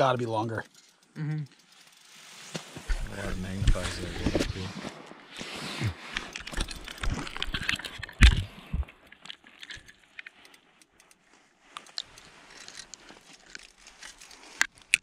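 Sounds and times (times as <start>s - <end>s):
faint ticks and crackles: 0.0s - 4.6s, 6.2s - 15.0s.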